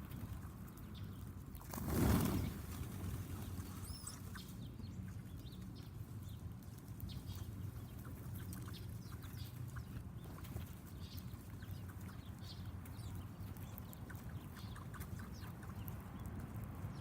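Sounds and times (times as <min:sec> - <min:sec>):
birds chirping: 0:02.0 - 0:17.0.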